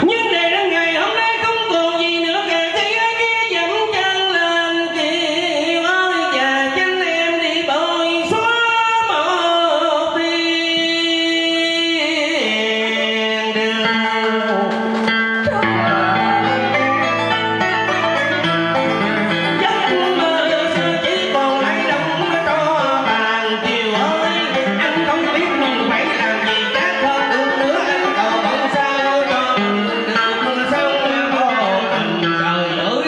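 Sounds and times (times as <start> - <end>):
man singing sliding notes: 0.0 - 33.0
plucked string accompaniment: 0.0 - 33.0.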